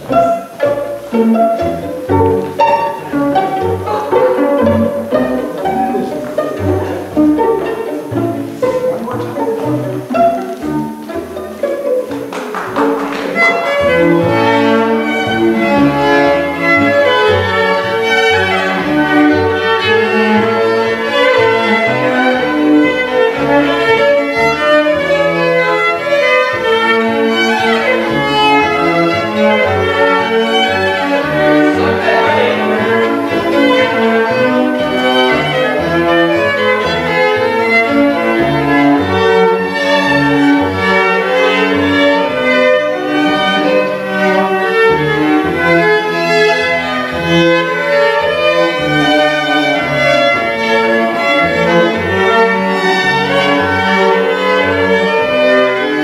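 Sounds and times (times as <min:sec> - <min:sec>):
string ensemble playing dance tune: 0:00.0 - 0:56.0.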